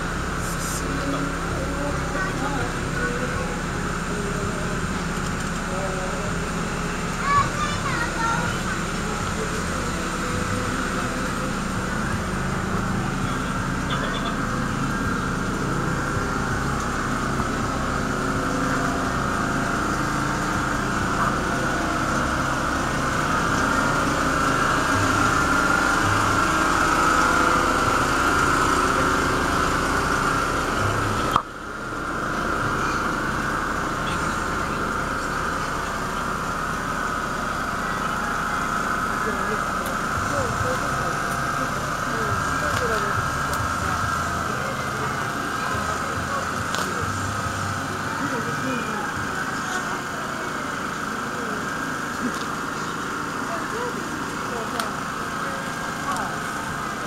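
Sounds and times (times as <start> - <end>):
diesel truck engines idling: 0.0 - 57.0.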